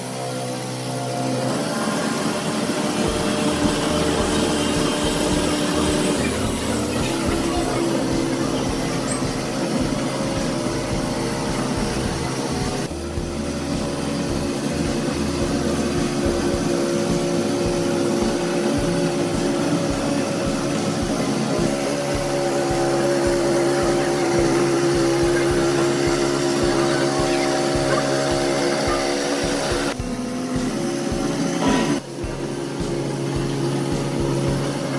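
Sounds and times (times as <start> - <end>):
petrol tiller engine running: 0.0 - 34.9
tines churning sand: 0.0 - 34.9.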